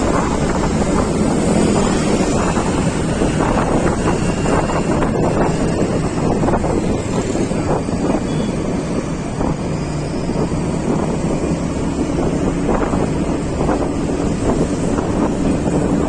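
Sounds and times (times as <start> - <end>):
vehicle and road noise: 0.0 - 16.0
wind buffeting microphone: 0.0 - 16.0.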